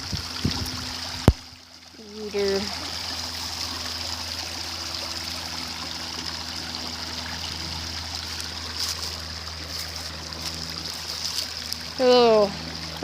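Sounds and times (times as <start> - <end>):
creek trickling: 0.0 - 13.0.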